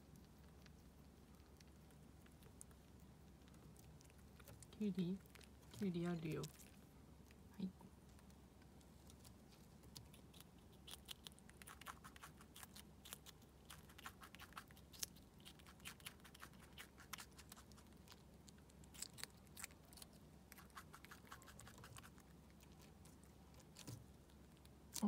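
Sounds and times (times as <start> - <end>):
squirrel crunching cucumber: 0.0 - 25.0.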